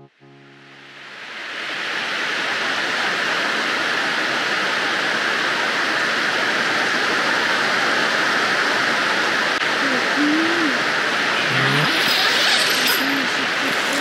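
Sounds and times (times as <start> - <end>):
heavy rain: 1.0 - 14.0.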